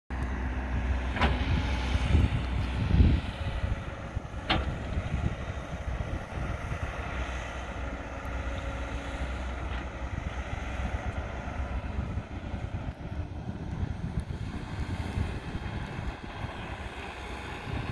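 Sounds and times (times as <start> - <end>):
excavator diesel engine: 0.1 - 17.9.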